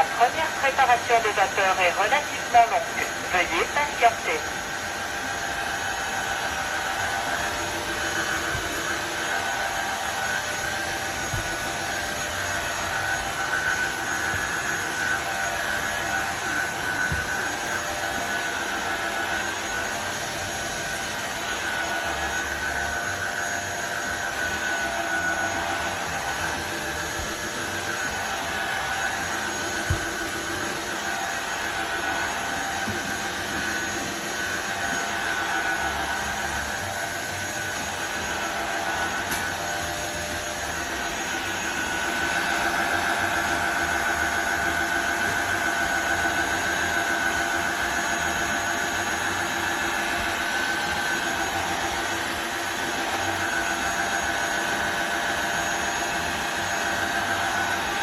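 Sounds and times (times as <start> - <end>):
floor cleaner suction motor whine: 0.0 - 58.0.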